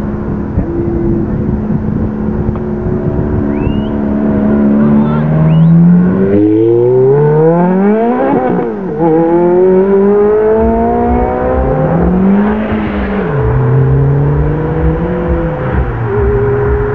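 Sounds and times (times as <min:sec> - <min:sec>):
sports car engine accelerating: 0:00.0 - 0:16.9.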